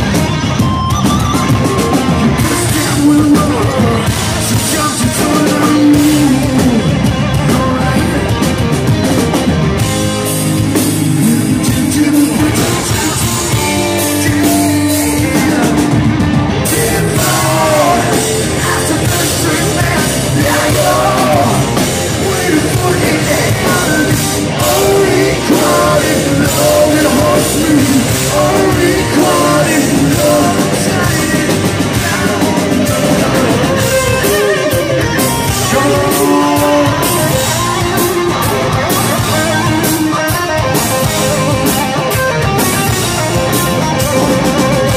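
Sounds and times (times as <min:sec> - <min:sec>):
hard rock band playing: 0:00.0 - 0:44.9
person singing: 0:01.6 - 0:08.5, 0:11.0 - 0:40.2.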